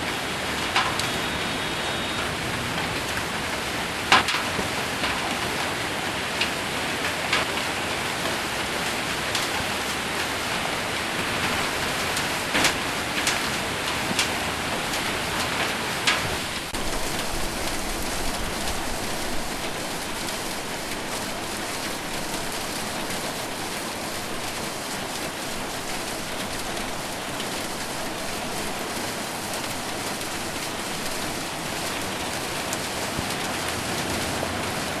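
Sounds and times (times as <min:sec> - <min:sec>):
heavy rain and hail on roof: 0:00.0 - 0:35.0
sharp hail impacts: 0:00.5 - 0:01.4, 0:02.2 - 0:05.8, 0:06.4 - 0:35.0.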